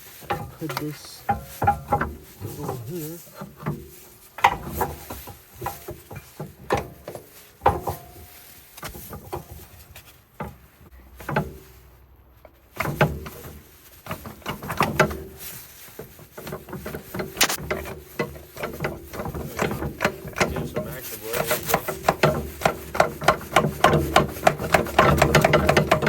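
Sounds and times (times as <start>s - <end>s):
tools and parts clattering: 0.0s - 11.6s, 12.7s - 26.0s.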